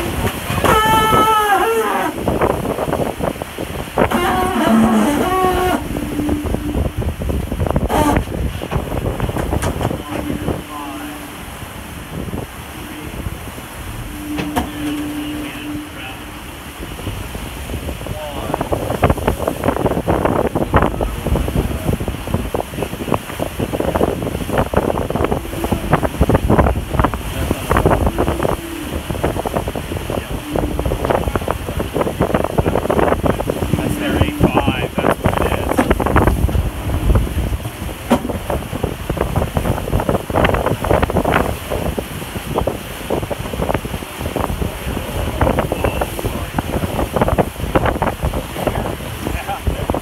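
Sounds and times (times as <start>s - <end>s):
water rushing along hull: 0.0s - 50.0s
wind buffeting microphone: 0.0s - 50.0s.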